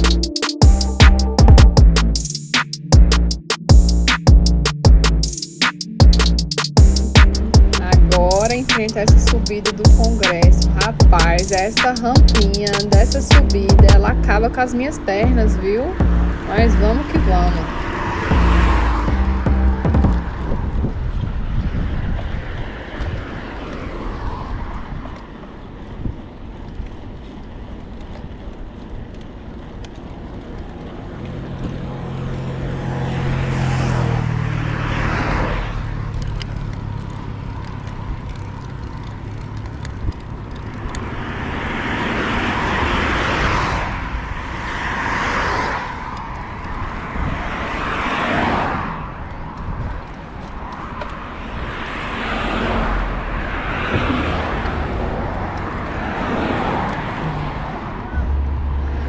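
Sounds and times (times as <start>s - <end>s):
cars passing by: 0.0s - 59.0s.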